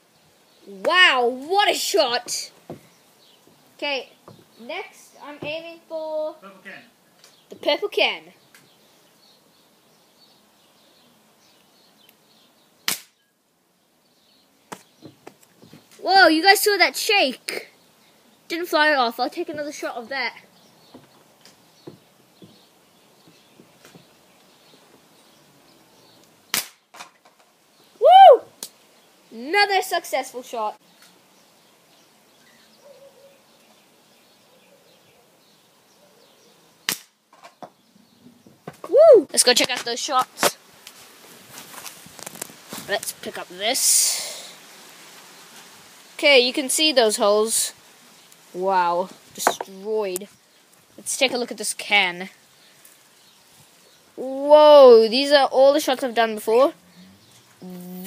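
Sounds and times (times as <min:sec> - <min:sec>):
distant birds chirping: 0:00.0 - 0:41.0, 0:45.3 - 0:58.0
faint outdoor hiss: 0:00.0 - 0:58.0.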